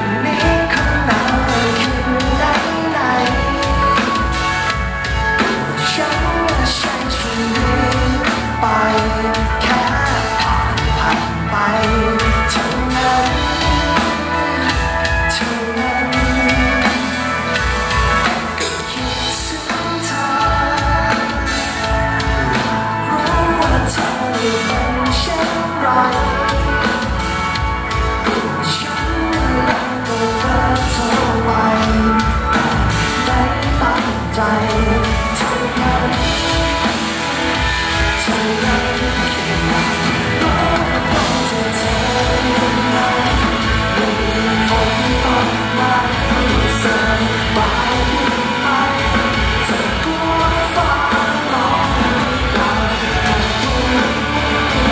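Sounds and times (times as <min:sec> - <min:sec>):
live band playing: 0:00.0 - 0:54.9
man singing into microphone: 0:00.0 - 0:54.9.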